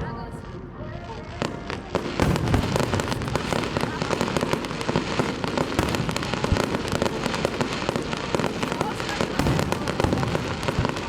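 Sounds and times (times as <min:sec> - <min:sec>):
fireworks barrage bangs and crackle: 0:00.0 - 0:11.0.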